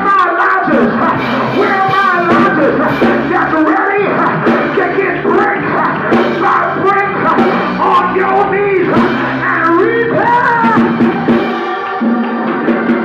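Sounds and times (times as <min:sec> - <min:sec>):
sustained low instrumental notes: 0:00.9 - 0:13.0.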